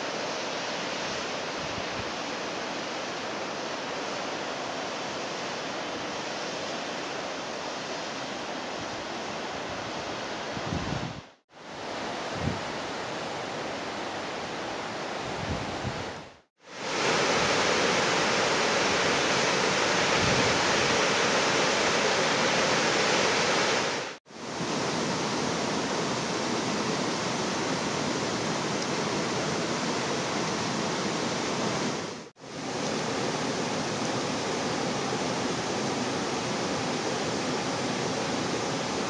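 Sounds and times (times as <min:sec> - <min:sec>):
mountain stream rushing: 0:00.0 - 0:11.0, 0:11.6 - 0:15.8, 0:16.6 - 0:39.0.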